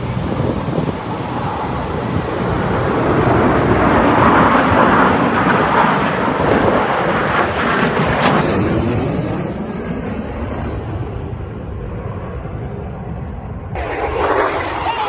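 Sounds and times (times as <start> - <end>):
airplane flying past: 0.0 - 15.0.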